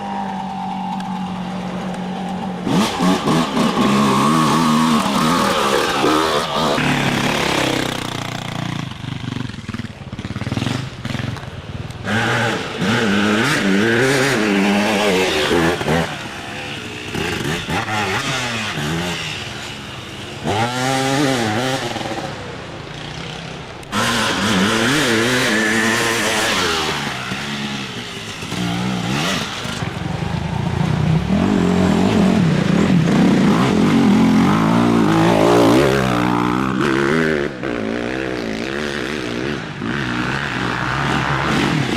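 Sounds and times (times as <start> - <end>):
dirt bike engines revving past: 0.0 - 41.9.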